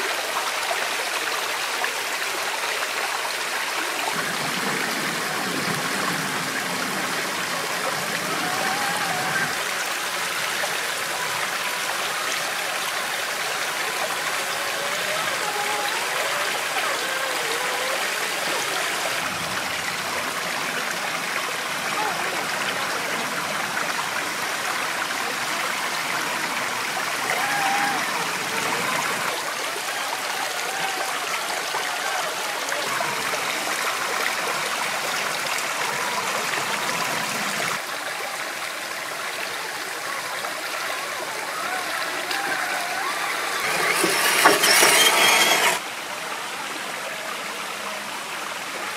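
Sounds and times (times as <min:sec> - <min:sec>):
stream rushing over rocks: 0:00.0 - 0:48.9
water gurgles: 0:00.0 - 0:48.9.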